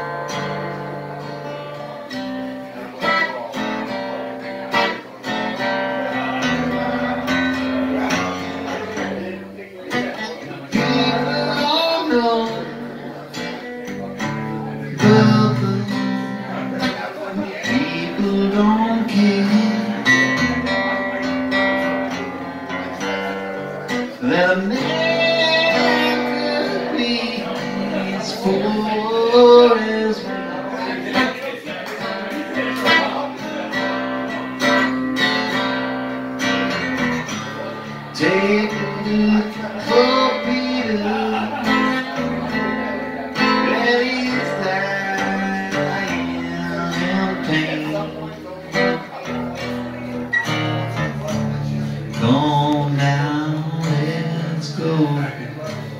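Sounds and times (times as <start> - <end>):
acoustic guitar strumming: 0.0 - 55.9
man singing: 0.0 - 55.9.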